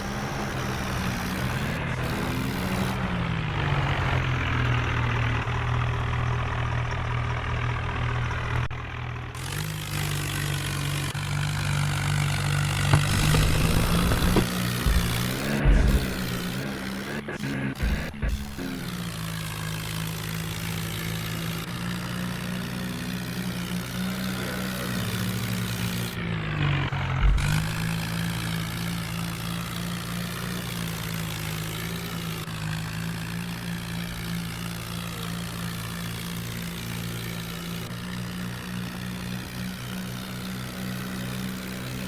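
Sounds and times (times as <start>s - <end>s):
heavy diesel engine running: 0.0s - 42.0s.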